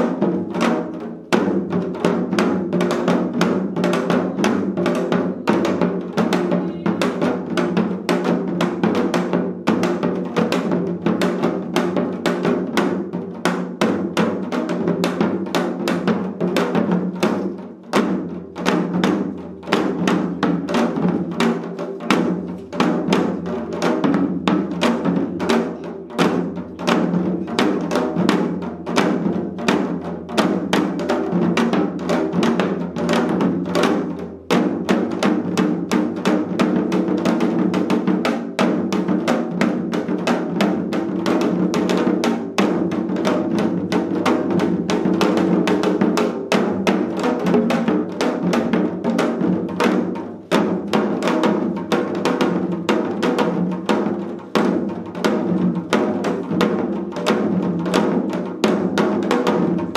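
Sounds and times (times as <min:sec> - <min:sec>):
hourglass drums played with sticks: 0:00.0 - 0:59.9.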